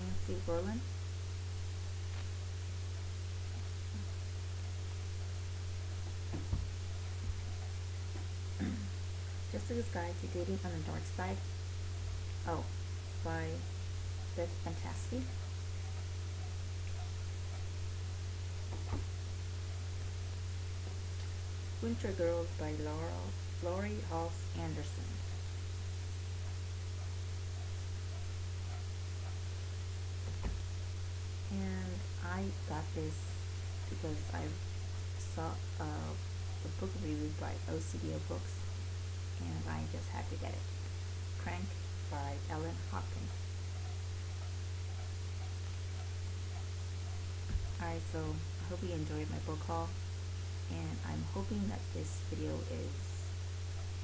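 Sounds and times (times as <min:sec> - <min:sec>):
electrical hum: 0:00.0 - 0:54.0
microphone hiss: 0:00.0 - 0:54.0.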